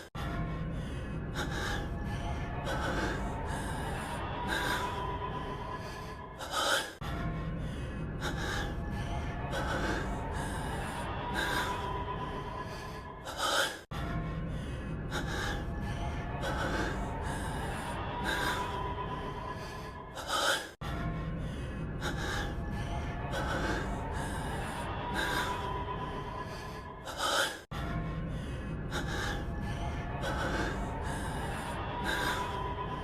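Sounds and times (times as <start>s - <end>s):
man breathing heavily: 0.0s - 33.0s.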